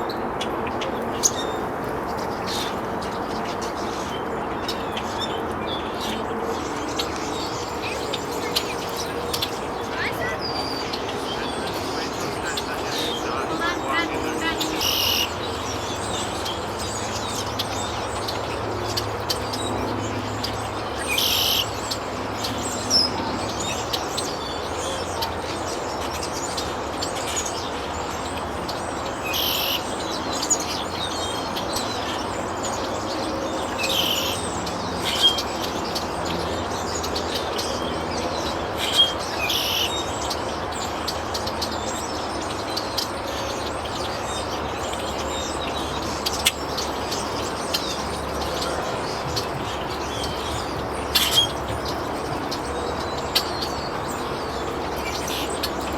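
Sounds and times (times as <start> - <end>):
wild birds chirping: 0.0 - 55.9.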